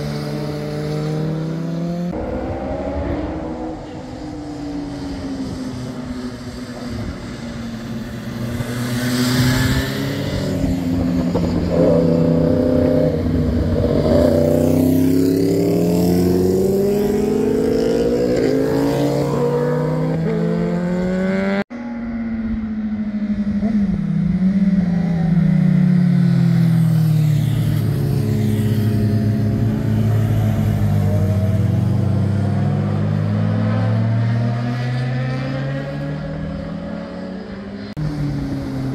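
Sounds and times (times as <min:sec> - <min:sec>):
motorcycle engines accelerating: 0:00.0 - 0:38.9.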